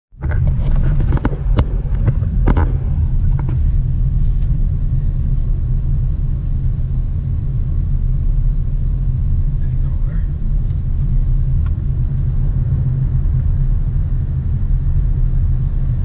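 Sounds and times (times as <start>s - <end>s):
car cabin rumble: 0.2s - 16.0s.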